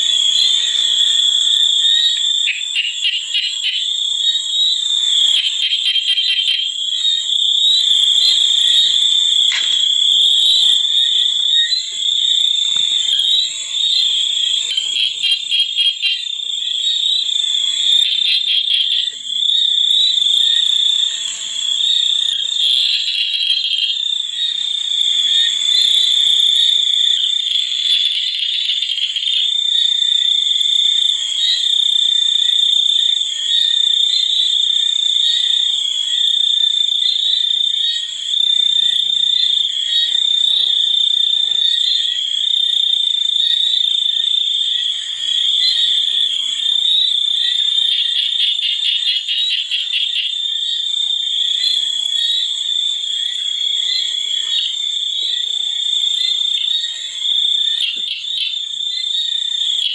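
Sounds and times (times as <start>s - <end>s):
frogs and insects calling: 0.0s - 59.9s.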